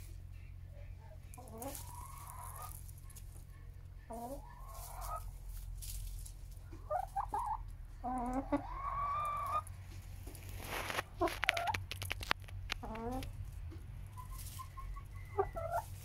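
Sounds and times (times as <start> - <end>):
hens clucking softly: 0.8 - 5.6, 6.4 - 16.0
straw rustling: 1.2 - 16.0.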